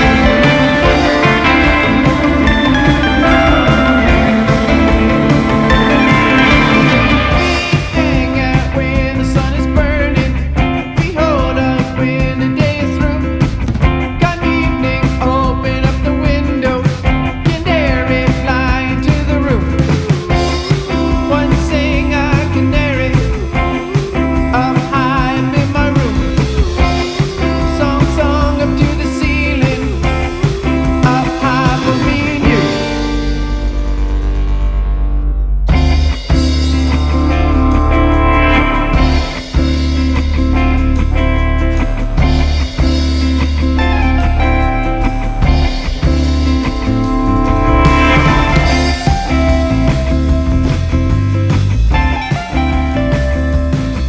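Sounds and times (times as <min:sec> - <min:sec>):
rock band music: 0:00.0 - 0:54.0.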